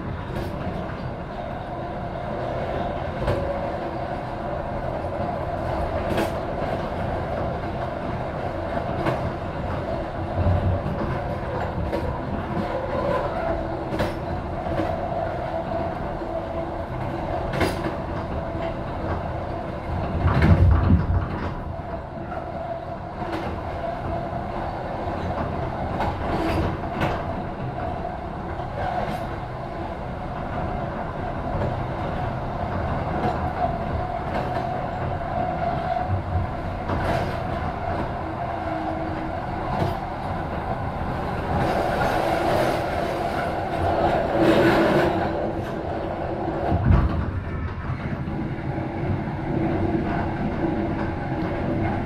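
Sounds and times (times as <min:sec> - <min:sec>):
train wheels rumbling on track: 0:00.0 - 0:52.0.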